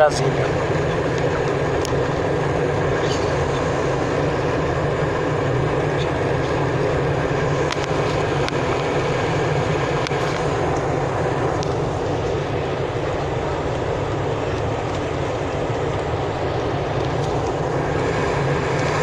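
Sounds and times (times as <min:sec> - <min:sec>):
jet engine and airflow rush: 0:00.0 - 0:19.0.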